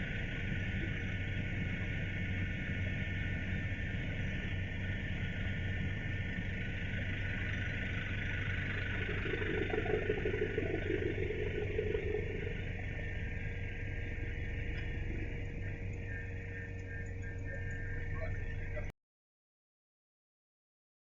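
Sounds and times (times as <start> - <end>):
helicopter engine and rotor drone: 0.0 - 18.9.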